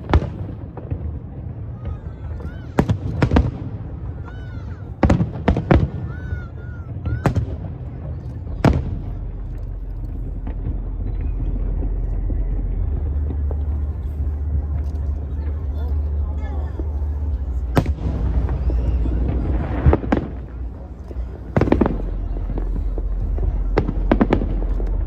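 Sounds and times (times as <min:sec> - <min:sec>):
fireworks bangs: 0:00.0 - 0:25.0
steady low rumble: 0:00.0 - 0:25.0.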